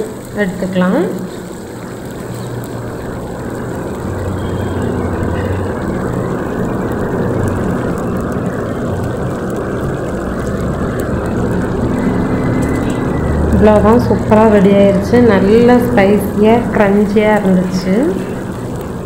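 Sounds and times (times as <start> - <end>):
chicken frying in hot oil: 0.0 - 19.0
faint crackles: 0.0 - 19.0
low rumble: 1.2 - 19.0.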